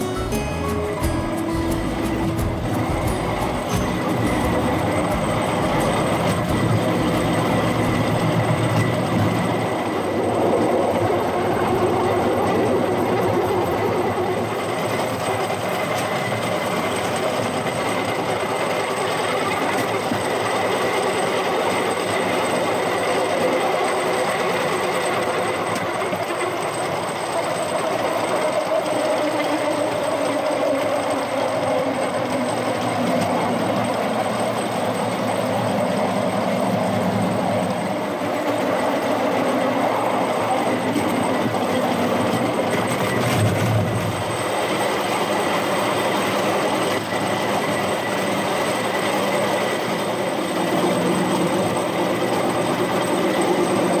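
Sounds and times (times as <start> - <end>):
wheels rolling on rails: 0.0 - 54.0.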